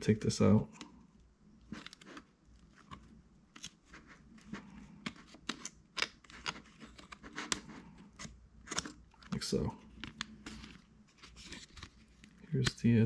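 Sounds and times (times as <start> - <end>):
plastic clicks and scrapes: 1.7 - 12.9.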